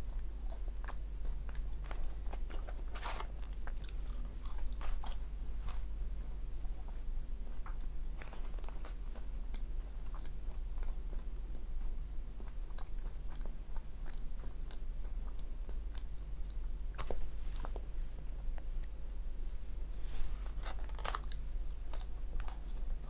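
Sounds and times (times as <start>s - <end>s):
chewing with mouth clicks: 0.0s - 5.9s, 6.6s - 19.3s, 20.4s - 23.0s.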